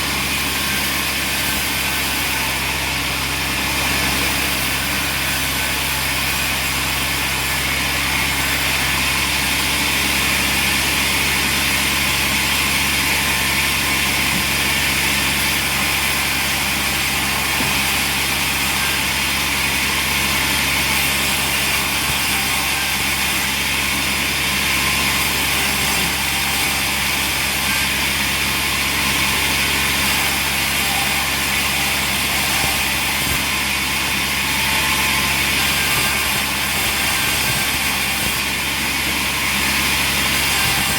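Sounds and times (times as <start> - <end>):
sawmill machinery drone and hiss: 0.0 - 40.9.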